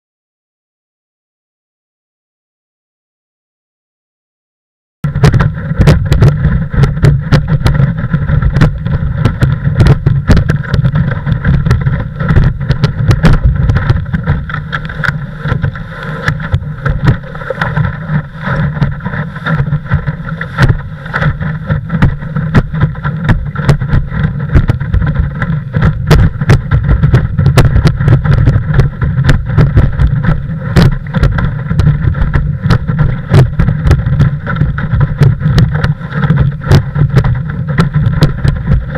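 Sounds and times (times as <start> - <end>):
wind rumble on microphone: 5.0 - 38.9
water rushing and slapping hull: 5.1 - 38.9.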